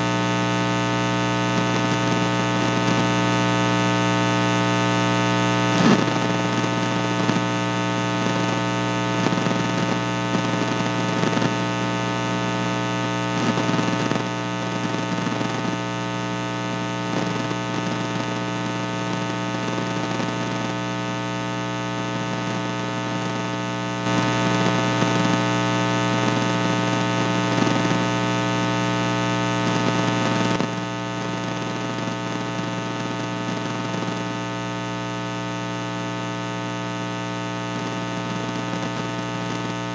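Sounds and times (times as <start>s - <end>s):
static crackle: 0.0s - 39.9s.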